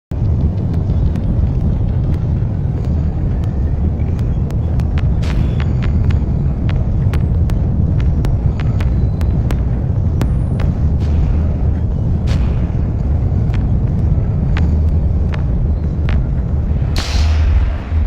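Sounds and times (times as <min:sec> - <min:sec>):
heavy machinery rumbling: 0:00.1 - 0:18.0.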